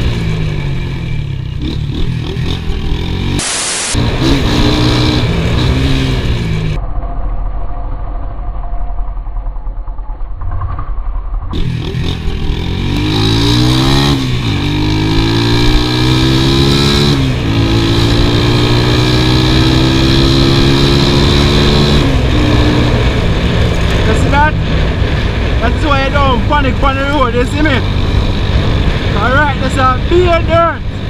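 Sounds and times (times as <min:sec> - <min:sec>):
motorcycle engine accelerating: 0:00.0 - 0:07.8, 0:08.6 - 0:31.0.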